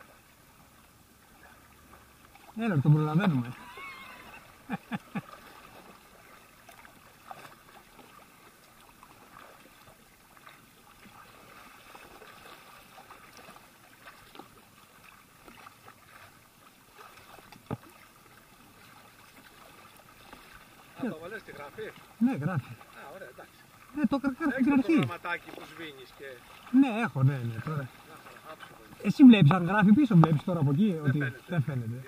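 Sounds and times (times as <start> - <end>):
paddle splashing in water: 0.0 - 32.0.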